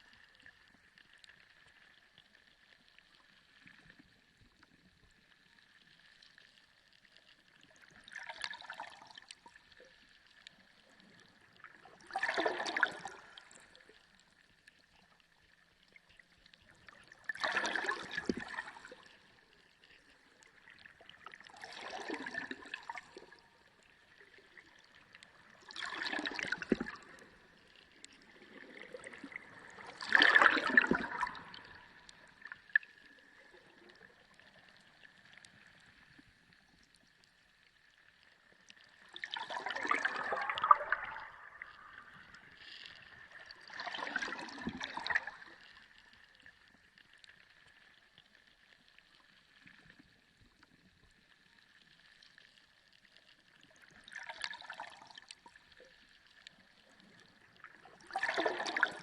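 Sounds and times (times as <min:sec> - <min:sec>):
churning gurgling water underwater: 0:00.0 - 0:59.0.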